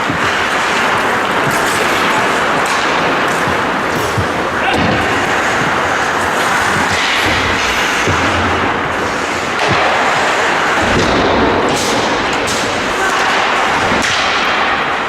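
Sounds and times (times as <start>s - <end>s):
hockey stick or puck clacks: 0.0s - 15.0s
players' voices: 0.0s - 15.0s
rink noise: 0.0s - 15.0s.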